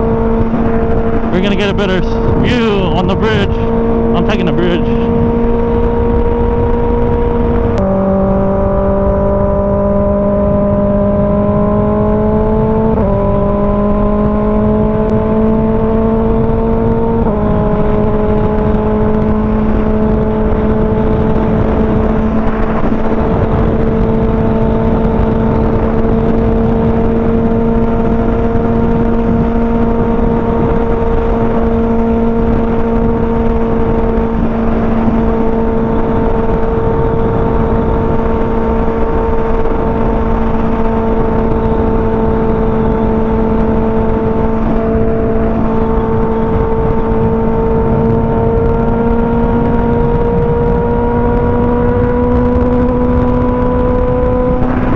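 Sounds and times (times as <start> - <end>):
wind rushing: 0.0 - 14.3, 16.4 - 54.9
motorcycle engine accelerating: 0.0 - 54.9.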